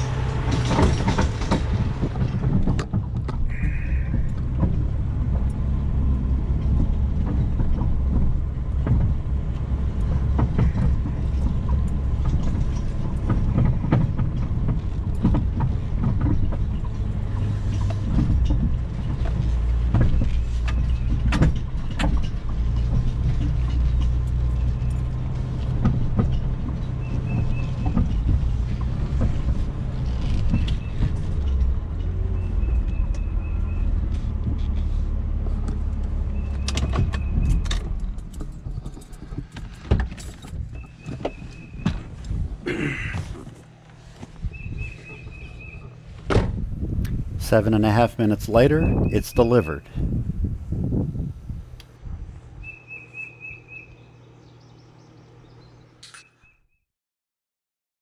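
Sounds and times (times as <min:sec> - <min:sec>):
knocks and rattles: 0:00.0 - 0:48.0
low engine drone: 0:00.0 - 0:56.3.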